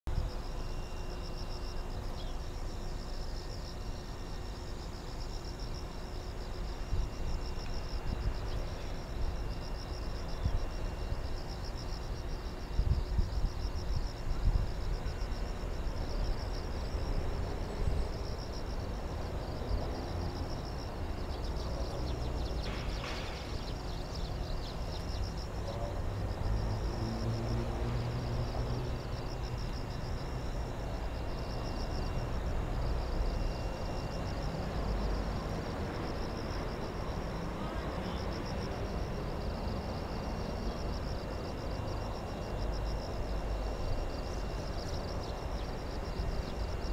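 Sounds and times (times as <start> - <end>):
insects trilling: 0.1 - 46.9.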